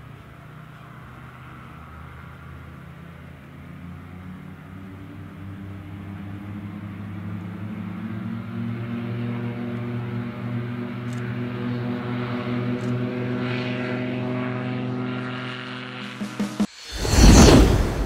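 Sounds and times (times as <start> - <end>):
propeller engines droning: 0.0 - 18.0.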